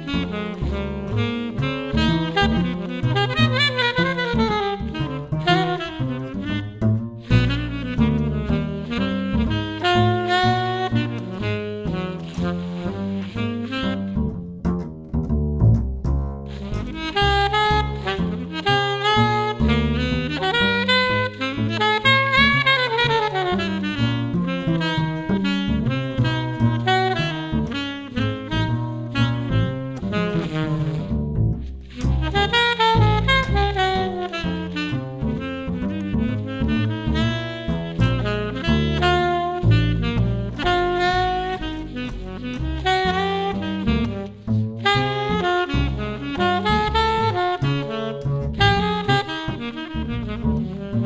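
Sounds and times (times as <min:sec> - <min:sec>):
bass line: 0:00.0 - 0:51.0
saxophone playing jazz melody: 0:00.0 - 0:51.0.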